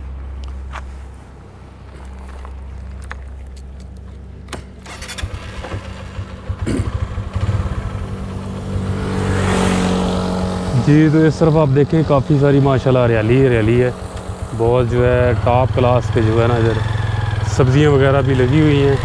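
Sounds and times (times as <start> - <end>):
road traffic rush: 0.0 - 19.0.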